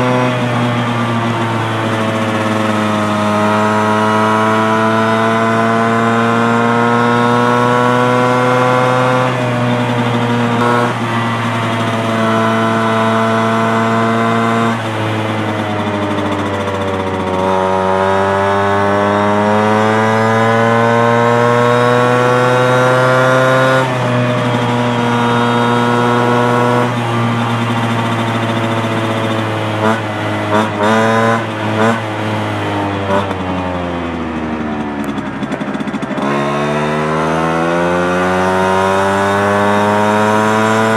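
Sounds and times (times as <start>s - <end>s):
moped two-stroke engine revving: 0.0s - 40.9s.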